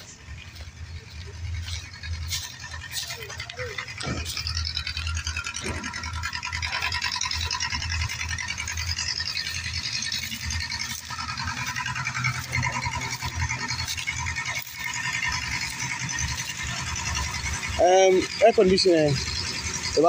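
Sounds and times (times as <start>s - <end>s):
low hum: 0.0s - 20.0s
small motor buzzing rattle: 0.0s - 20.0s.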